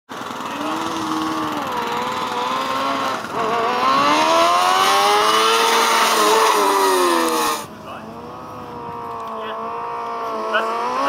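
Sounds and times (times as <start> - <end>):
race car engine accelerating: 0.1 - 11.0.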